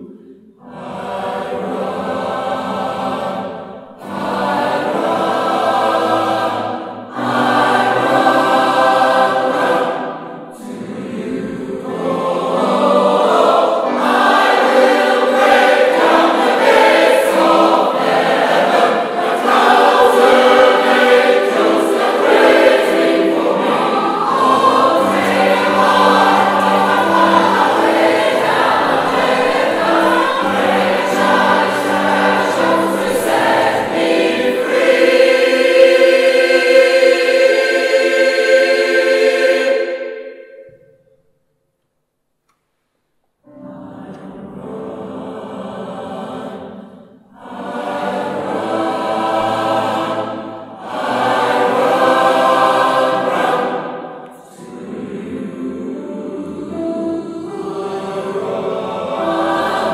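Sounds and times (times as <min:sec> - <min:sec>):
gospel choir singing in harmony: 0:00.0 - 0:40.8, 0:43.5 - 0:59.9.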